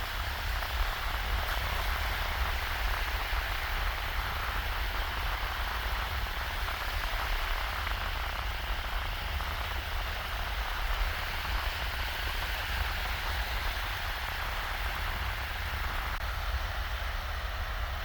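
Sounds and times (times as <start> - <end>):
waves washing onto beach: 0.0 - 18.0
wind rumbling on microphone: 0.0 - 18.0.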